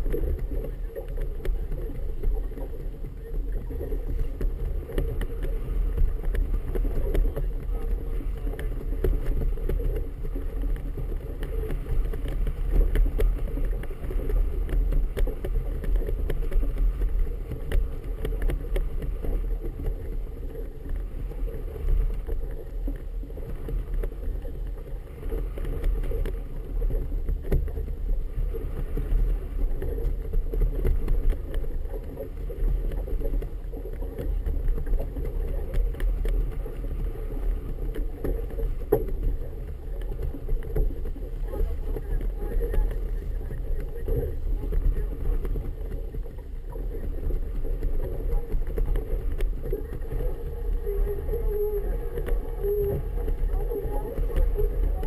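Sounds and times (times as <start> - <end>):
water lapping against hull: 0.0 - 55.0
wind rumbling on microphone: 0.0 - 55.0.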